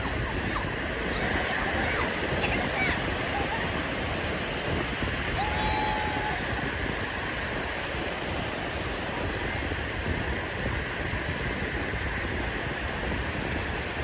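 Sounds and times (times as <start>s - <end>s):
sea waves on beach: 0.0s - 14.0s.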